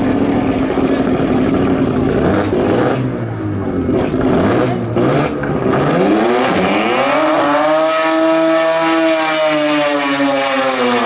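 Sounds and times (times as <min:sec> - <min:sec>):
race car engine at full throttle: 0:00.0 - 0:11.0.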